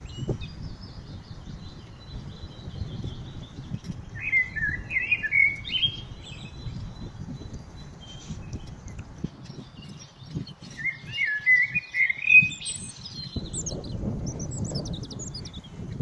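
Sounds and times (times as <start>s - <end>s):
faint high bird chirps: 0.0s - 8.8s, 9.4s - 16.0s
loud wavering birdsong: 0.0s - 16.0s.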